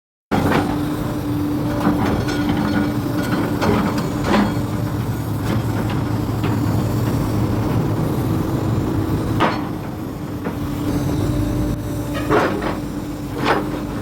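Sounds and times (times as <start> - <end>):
excavator diesel engine running: 0.3 - 14.0.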